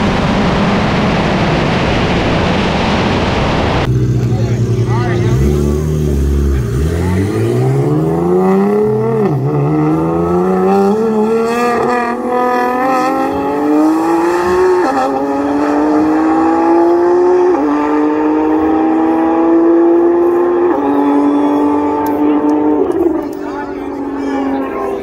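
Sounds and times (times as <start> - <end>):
cars accelerating flat out: 3.8 - 25.0.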